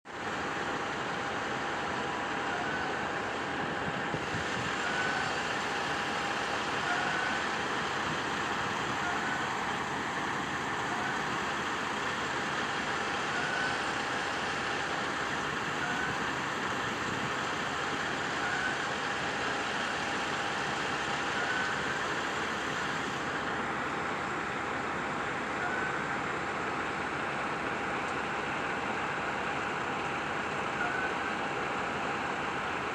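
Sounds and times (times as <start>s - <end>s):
traffic noise: 0.0s - 32.9s.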